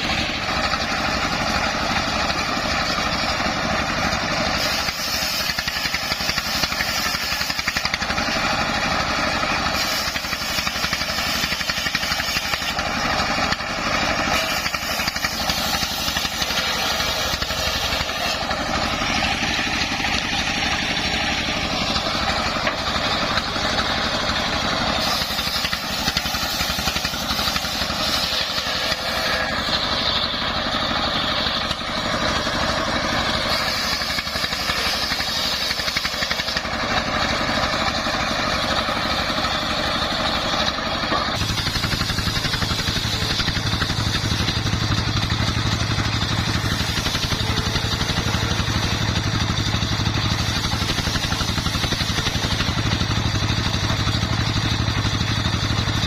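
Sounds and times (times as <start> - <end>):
diesel engine running under load: 0.0 - 56.0
circular saw hissing whine: 4.3 - 53.7.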